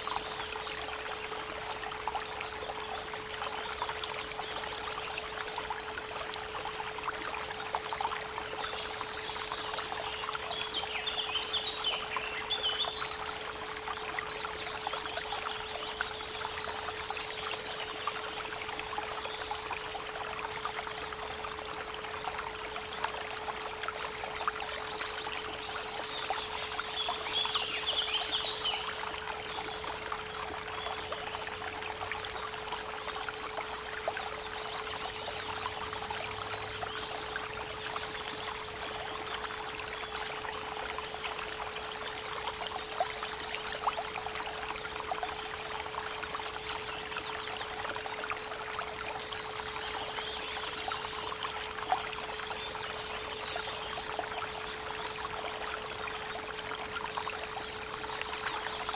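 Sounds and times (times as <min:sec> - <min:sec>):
creek water running: 0:00.0 - 0:58.9
birds singing: 0:02.1 - 0:58.9.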